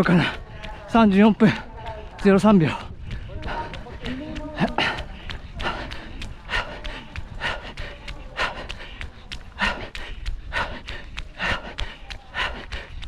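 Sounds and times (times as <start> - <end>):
heavy breathing: 0.0 - 13.0
running footfalls: 0.0 - 13.0.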